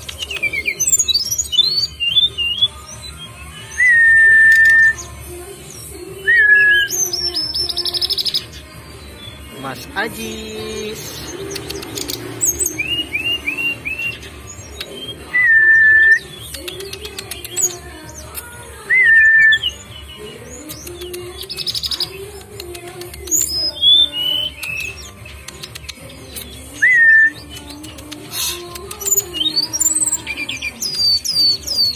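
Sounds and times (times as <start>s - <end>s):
whistled bird calls: 0.0s - 5.1s, 6.2s - 9.4s, 11.1s - 22.3s, 23.3s - 31.9s
high bird chirps: 0.0s - 5.2s, 6.0s - 31.9s.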